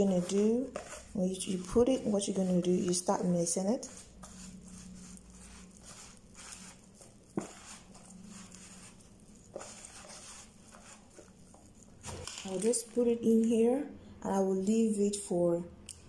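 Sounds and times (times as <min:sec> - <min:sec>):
fingers mixing dough in plastic tub: 0:00.0 - 0:13.8.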